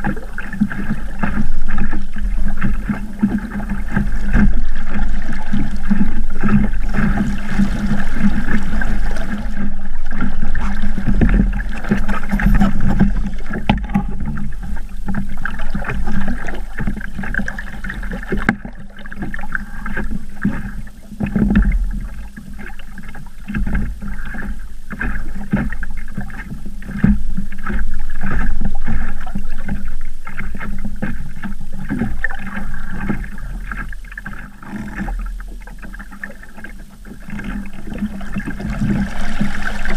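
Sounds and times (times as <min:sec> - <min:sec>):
water rushing against boat hull: 0:00.0 - 0:39.9
water slaps on hull: 0:00.0 - 0:39.9.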